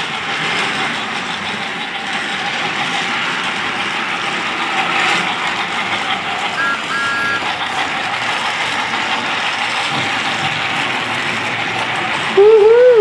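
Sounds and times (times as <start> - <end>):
wheels rattling on plastic track: 0.0 - 13.0.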